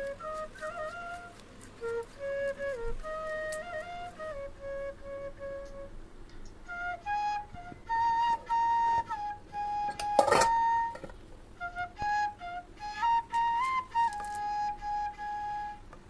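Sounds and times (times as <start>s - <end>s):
flute melody: 0.0s - 16.0s.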